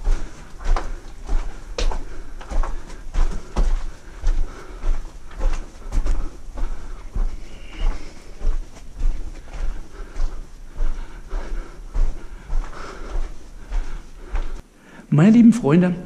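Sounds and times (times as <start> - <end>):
footsteps and handling thumps: 0.0 - 14.6.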